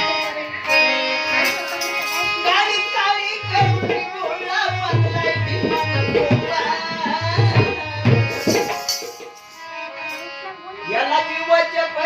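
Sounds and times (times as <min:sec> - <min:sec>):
man singing: 0:00.0 - 0:09.2, 0:10.8 - 0:12.0.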